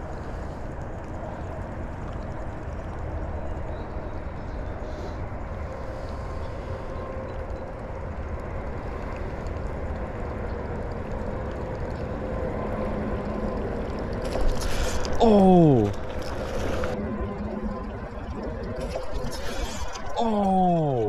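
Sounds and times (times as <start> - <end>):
faint humming tones: 0.0 - 21.0.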